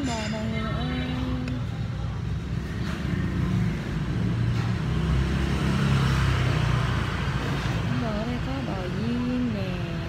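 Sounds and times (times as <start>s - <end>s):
vehicle engines passing: 0.0s - 10.0s.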